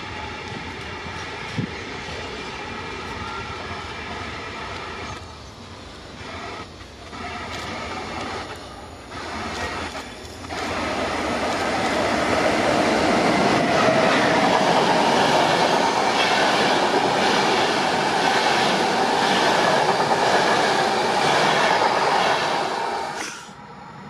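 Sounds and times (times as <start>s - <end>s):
train rumbling on tracks: 0.0s - 24.0s.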